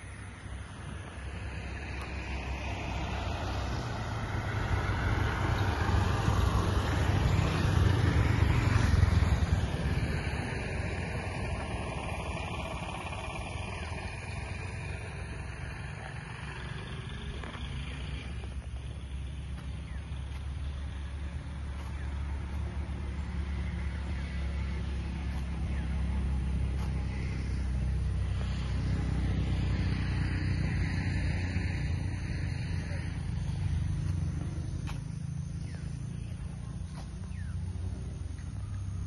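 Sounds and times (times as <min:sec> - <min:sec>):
road noise: 0:00.0 - 0:39.0
vehicle engine rumble: 0:00.0 - 0:39.0.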